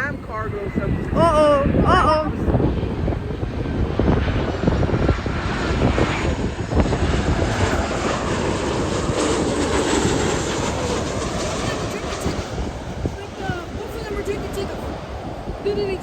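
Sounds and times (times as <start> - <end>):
jet engines passing: 0.0 - 16.0.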